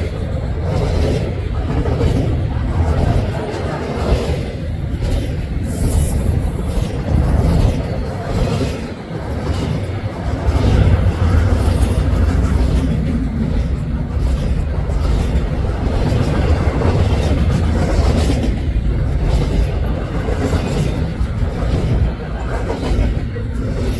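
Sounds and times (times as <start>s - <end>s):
freight train wheels rumbling on rail: 0.0s - 23.9s.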